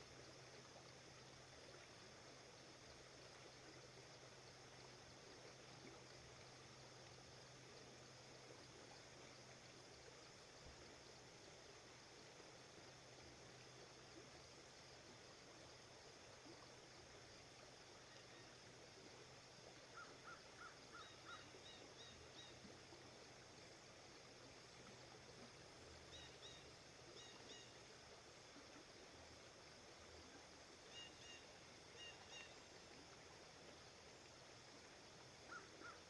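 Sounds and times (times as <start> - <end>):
river flowing: 0.0 - 36.0.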